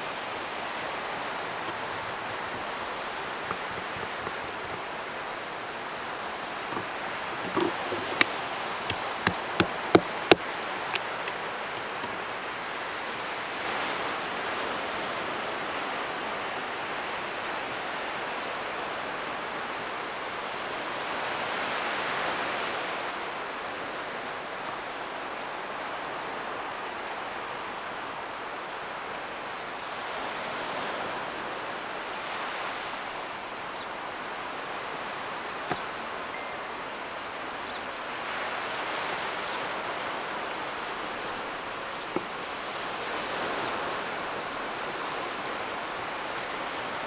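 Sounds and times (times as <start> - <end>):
sea surf washing: 0.0 - 24.3, 29.9 - 47.0.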